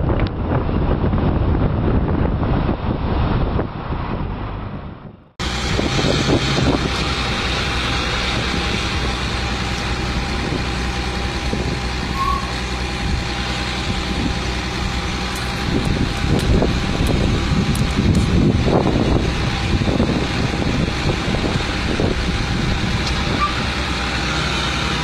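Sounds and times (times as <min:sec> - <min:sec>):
truck diesel engine running: 0:00.0 - 0:25.0.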